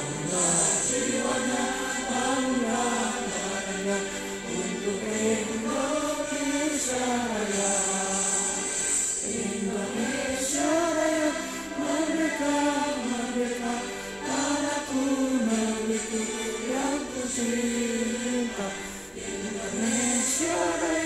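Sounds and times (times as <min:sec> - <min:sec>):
women singing in unison: 0:00.0 - 0:21.0.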